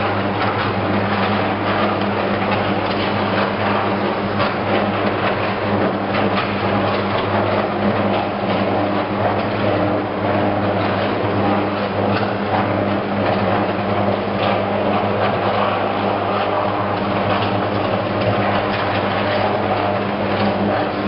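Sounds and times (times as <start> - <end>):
deep electrical hum: 0.0 - 21.0.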